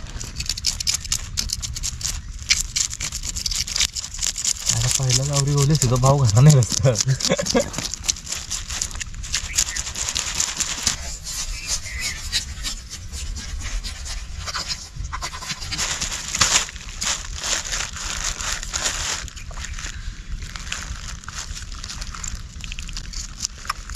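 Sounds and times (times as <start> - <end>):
blade scraping fish scales: 0.0 - 19.5.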